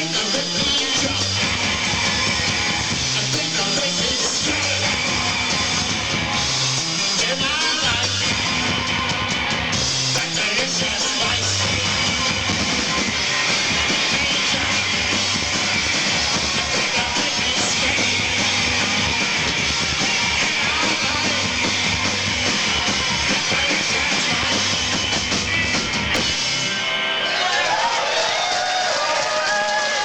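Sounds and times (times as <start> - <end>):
drum kit: 0.0 - 27.4
bass guitar: 0.0 - 27.6.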